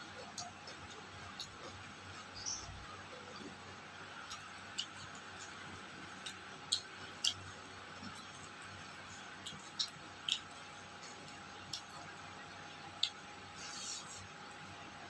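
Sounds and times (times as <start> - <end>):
person chewing food: 0.1 - 2.4, 3.2 - 14.8.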